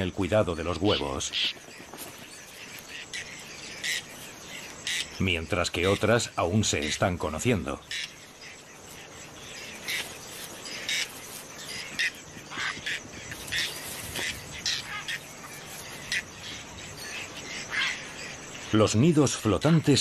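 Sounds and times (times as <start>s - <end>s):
faint steady hiss: 0.0s - 20.0s
terns calling: 0.0s - 20.0s.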